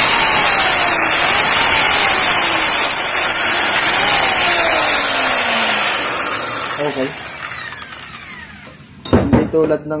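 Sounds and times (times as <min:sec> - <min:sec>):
circular saw whirring: 0:00.0 - 0:09.0.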